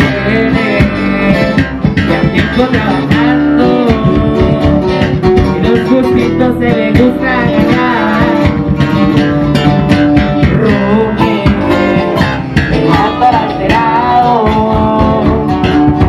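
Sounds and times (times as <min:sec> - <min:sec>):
deep bass line: 0:00.0 - 0:16.0
plucked acoustic guitars: 0:00.0 - 0:16.0.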